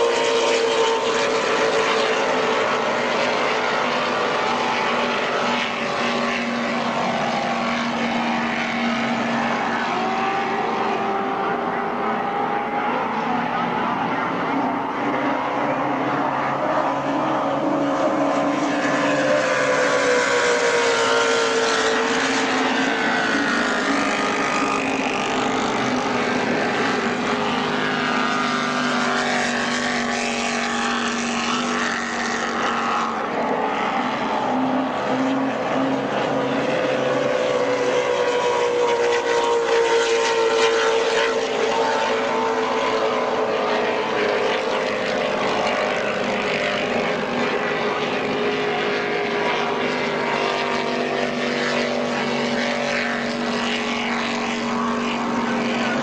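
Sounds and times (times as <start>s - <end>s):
powerboat engines droning: 0.0s - 56.0s.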